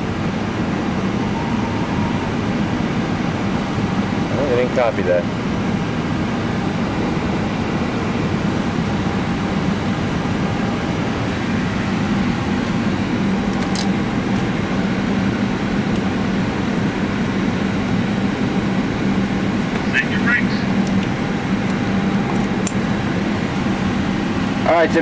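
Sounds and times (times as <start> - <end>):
aircraft air-conditioning hum: 0.0 - 25.0.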